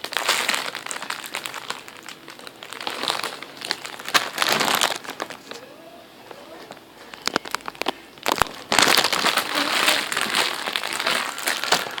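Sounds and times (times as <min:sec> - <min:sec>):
plastic toy crinkling and rustling: 0:00.0 - 0:05.7, 0:06.3 - 0:12.0.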